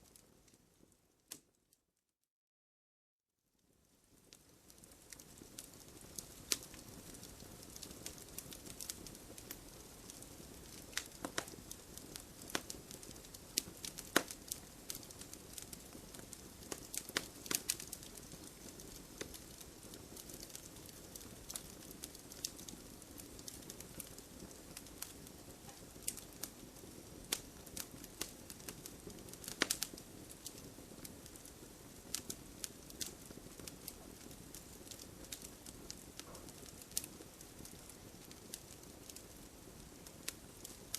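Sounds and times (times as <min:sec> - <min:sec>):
wood fire crackling: 0:00.0 - 0:01.5, 0:03.6 - 0:40.9.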